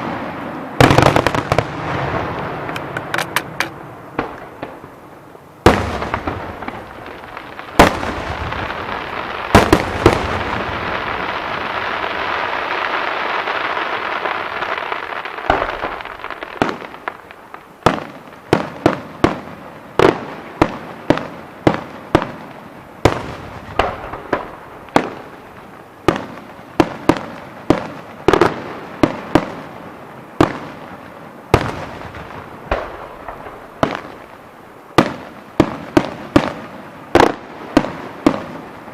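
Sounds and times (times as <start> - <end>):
fireworks bangs: 0.0 - 5.0, 5.6 - 38.9.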